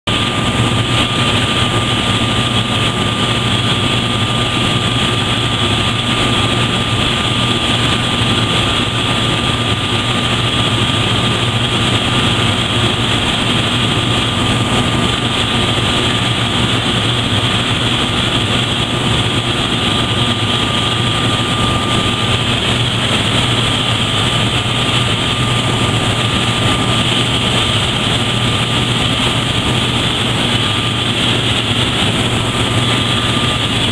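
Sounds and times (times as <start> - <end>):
low hum: 0.1 - 33.9.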